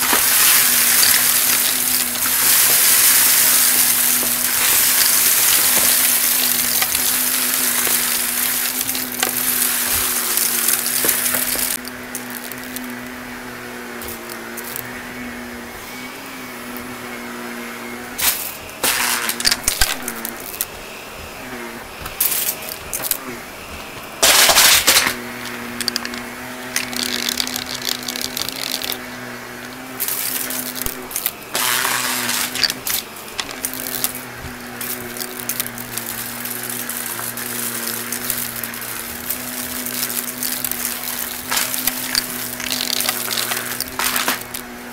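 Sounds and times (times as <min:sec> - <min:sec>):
debris crackling up vacuum: 0:00.0 - 0:44.9
upright vacuum running: 0:00.0 - 0:44.9.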